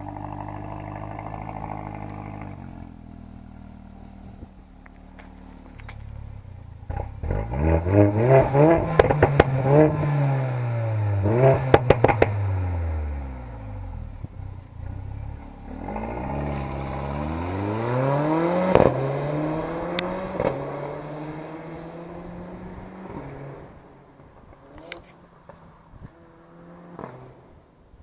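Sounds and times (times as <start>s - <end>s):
car engine accelerating: 0.0s - 27.7s
exhaust crackles: 0.0s - 28.0s.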